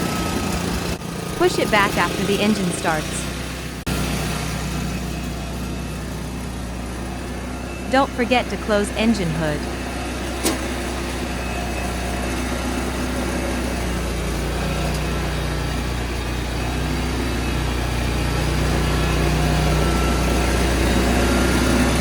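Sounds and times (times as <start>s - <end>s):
petrol engine running: 0.0s - 22.0s.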